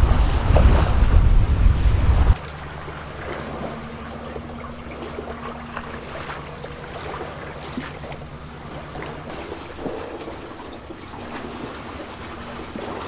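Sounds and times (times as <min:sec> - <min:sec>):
low drone: 0:00.0 - 0:13.0
water rushing along hull: 0:00.0 - 0:13.0.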